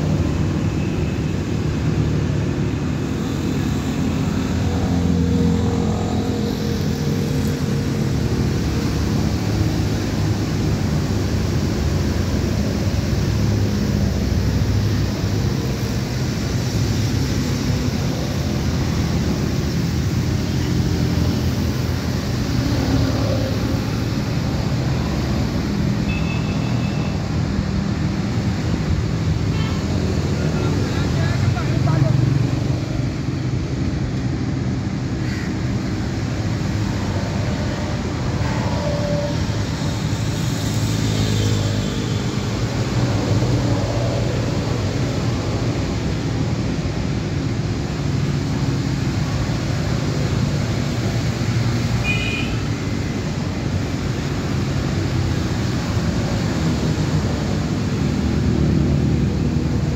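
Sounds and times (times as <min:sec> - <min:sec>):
traffic rumble and hum: 0:00.0 - 0:59.9.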